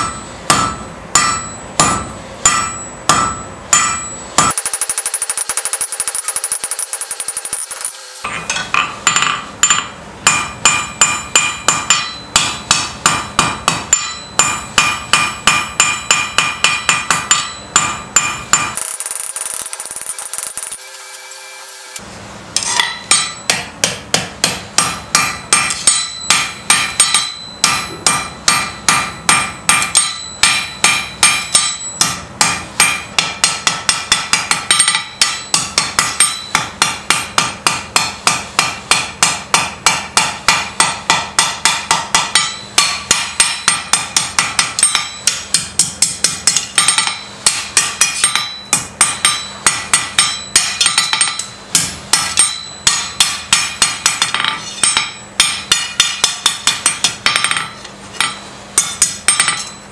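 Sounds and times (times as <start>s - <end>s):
hammer striking anvil: 0.0s - 21.1s, 22.0s - 59.9s.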